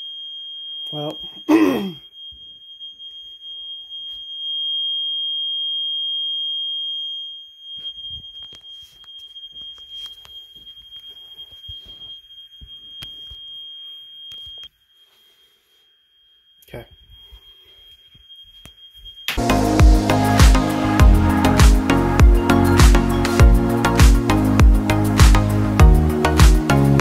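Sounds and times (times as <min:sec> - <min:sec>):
high-pitched alarm tone: 0:00.0 - 0:05.9, 0:06.5 - 0:27.0.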